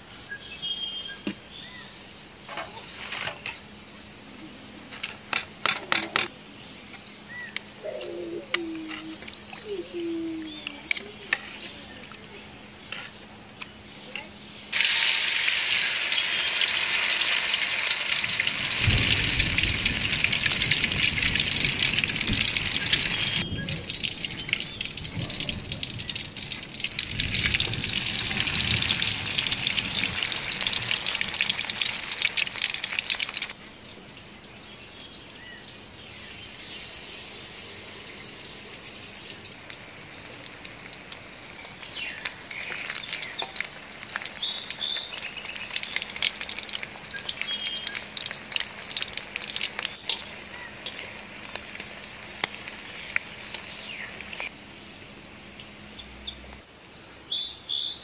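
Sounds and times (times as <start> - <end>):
oil sizzling deep-frying: 0.0 - 57.2.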